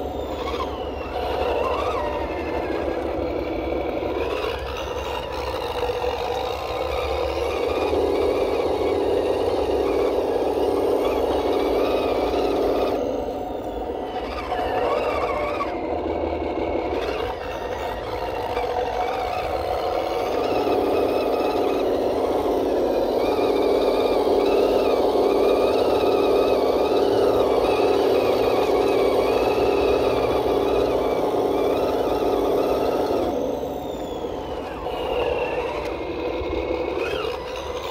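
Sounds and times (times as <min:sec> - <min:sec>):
toy truck motor whining: 0:00.0 - 0:37.9
truck running through muddy water: 0:00.0 - 0:37.9.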